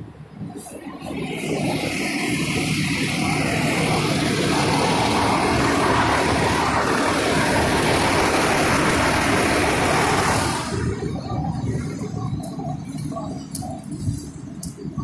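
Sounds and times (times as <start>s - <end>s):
fire engine rushing noise: 0.5s - 13.4s.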